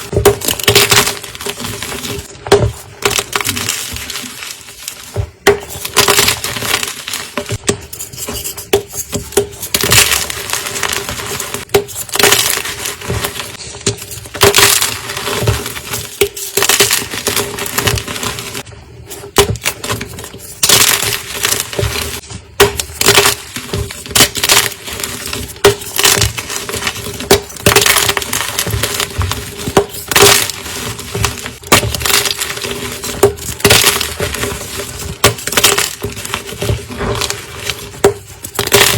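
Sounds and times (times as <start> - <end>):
chalk blocks being crushed: 0.0 - 38.9.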